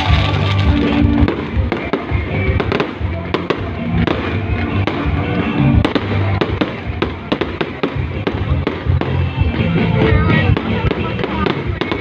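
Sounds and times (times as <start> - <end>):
fireworks bangs and pops: 0.0 - 12.0
loud music: 0.0 - 12.0.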